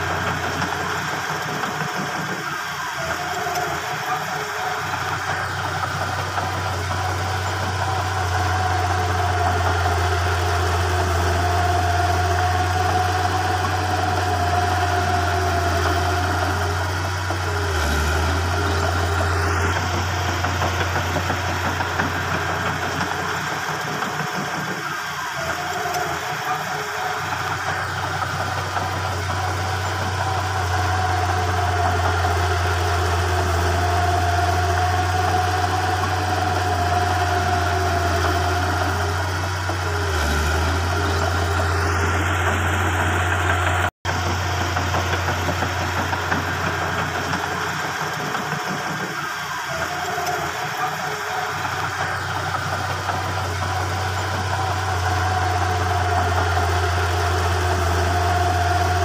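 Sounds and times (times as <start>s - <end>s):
bulldozer diesel engine running: 0.0s - 59.0s
high engine whine: 0.0s - 59.0s.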